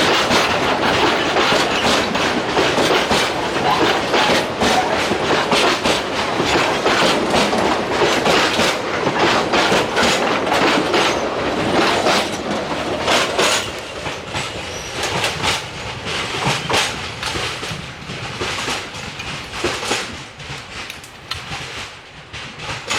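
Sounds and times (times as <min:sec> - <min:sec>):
train wheels clacking over rail joints: 0:00.0 - 0:22.9.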